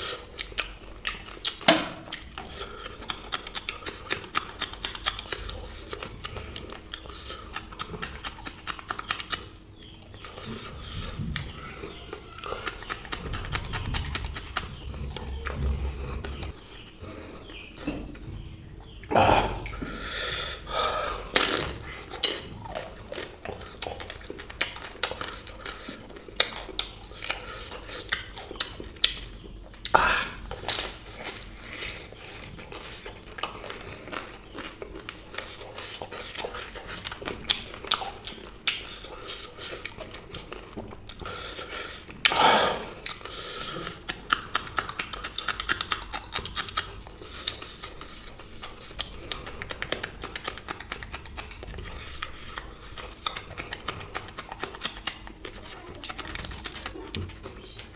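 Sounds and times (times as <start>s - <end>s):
wet crackly chewing: 0.0s - 57.9s.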